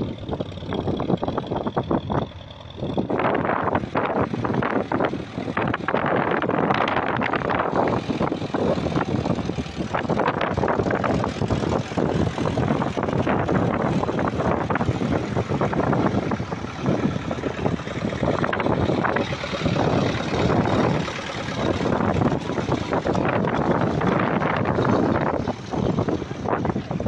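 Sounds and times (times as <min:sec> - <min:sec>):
tractor engine running under load: 0:00.0 - 0:27.0.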